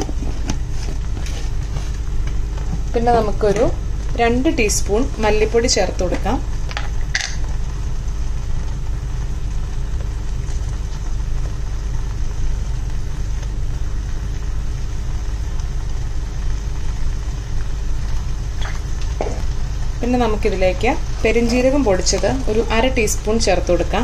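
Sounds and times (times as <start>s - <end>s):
faint constant hum: 0.0s - 24.0s.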